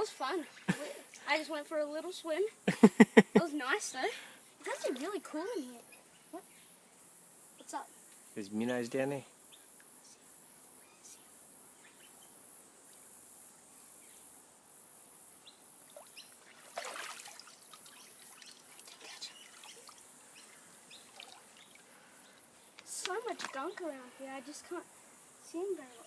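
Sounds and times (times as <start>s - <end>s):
insects pulsing chorus: 0.0s - 26.0s.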